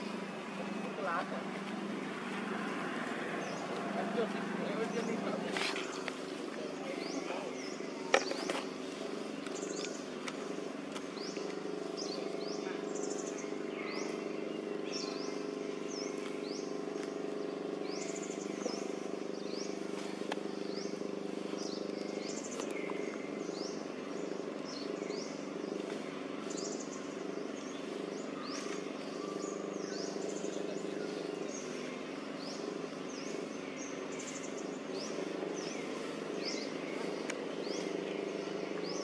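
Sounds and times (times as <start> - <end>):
birds chirping: 0.0 - 39.0
steady low hum: 0.0 - 39.0.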